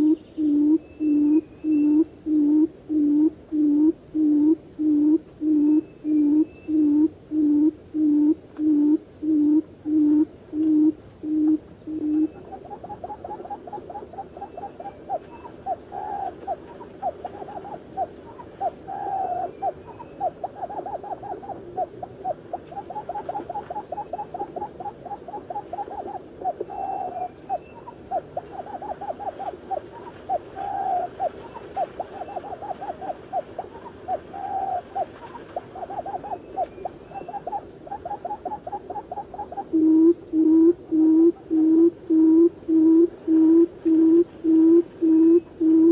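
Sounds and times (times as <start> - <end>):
quail hooting call: 0.0 - 45.9.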